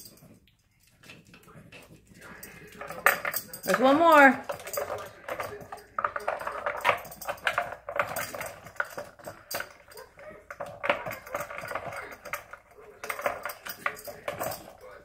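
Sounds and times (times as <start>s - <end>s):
plastic puzzle toy clicking and rattling: 2.8s - 14.8s.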